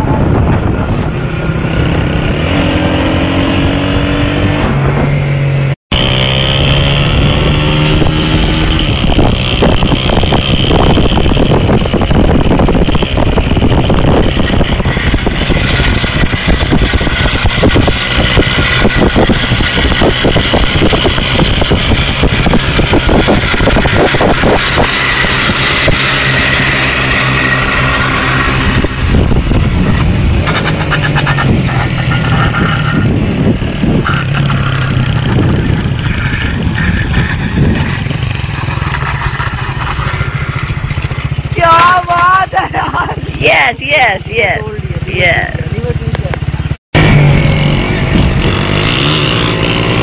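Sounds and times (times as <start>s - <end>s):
motorcycle engine revving: 0.0s - 50.0s
wind noise: 0.0s - 50.0s.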